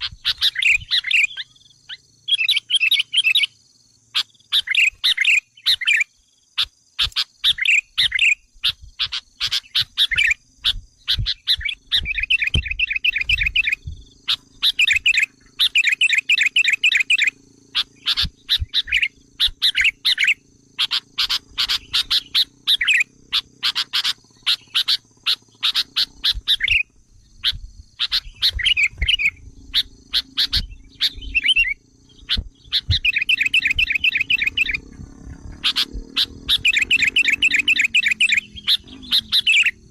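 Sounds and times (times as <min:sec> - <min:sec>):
bulbuls chirping and trilling: 0:00.0 - 0:39.9.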